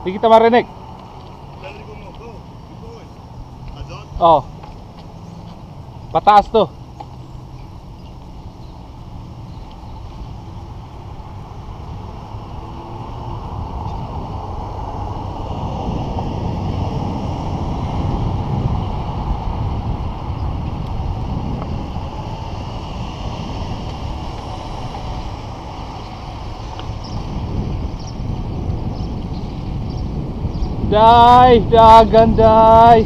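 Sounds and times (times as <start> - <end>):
bicycle tyres rumbling on concrete: 0.0 - 33.0
wind buffeting microphone: 0.0 - 33.0.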